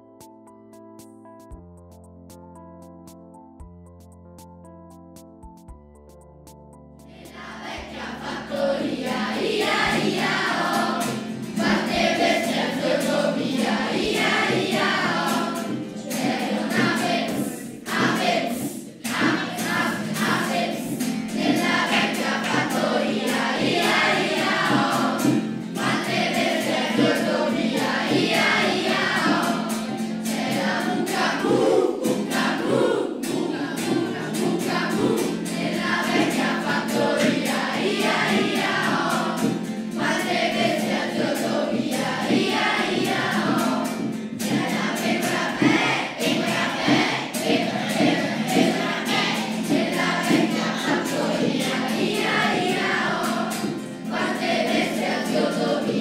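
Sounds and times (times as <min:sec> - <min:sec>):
choir singing: 0:07.1 - 0:56.0.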